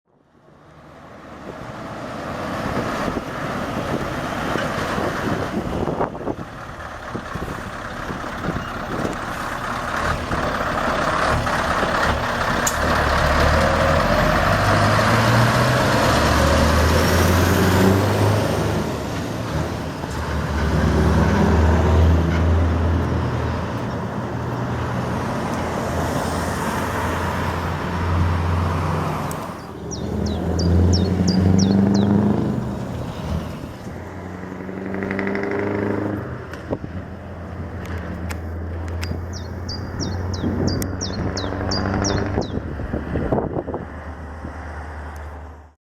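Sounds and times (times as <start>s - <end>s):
diesel engine running under load: 0.4s - 45.7s.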